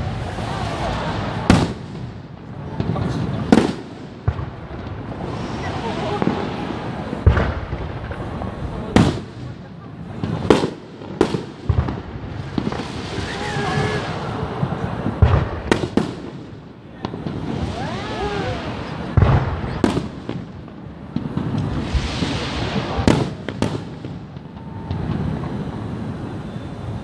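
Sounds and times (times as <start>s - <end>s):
crackling hiss of falling stars: 0.0s - 27.0s
fireworks bangs: 0.0s - 27.0s.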